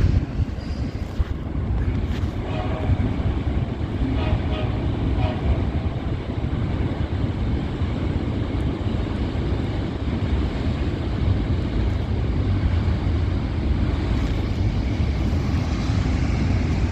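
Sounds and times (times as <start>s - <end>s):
freight train rumbling past: 0.0s - 16.9s
wind on microphone: 0.0s - 16.9s.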